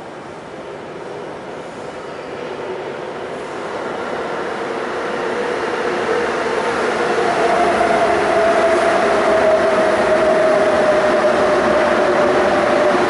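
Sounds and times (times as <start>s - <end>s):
electric train arriving with whine: 0.3s - 13.0s.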